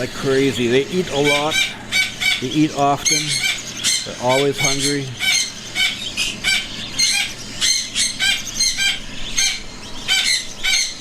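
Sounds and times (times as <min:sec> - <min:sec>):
chicks begging calls: 0:00.0 - 0:11.0.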